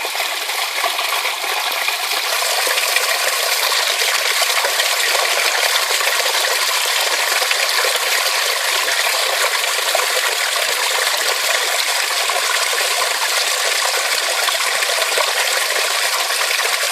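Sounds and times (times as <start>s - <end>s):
stream rushing over rocks: 0.0s - 16.9s.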